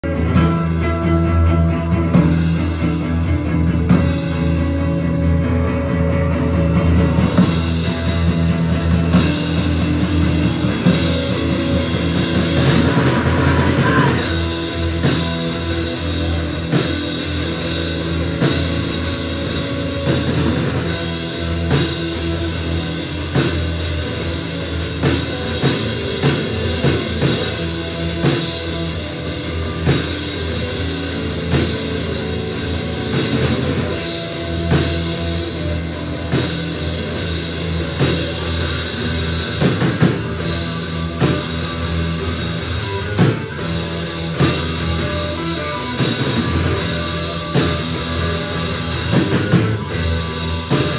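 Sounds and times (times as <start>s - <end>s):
live rock music: 0.0s - 50.9s.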